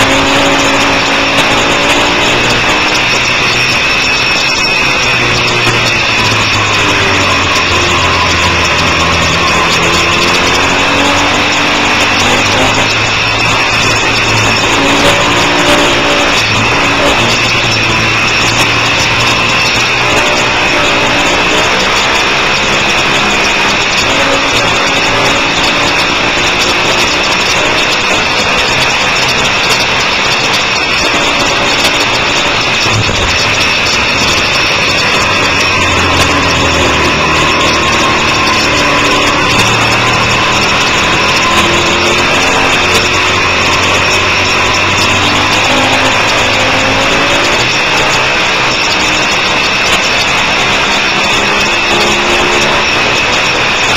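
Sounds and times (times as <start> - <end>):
motorcycle engine revving: 0.0 - 53.9
wind rush on microphone: 0.0 - 53.9.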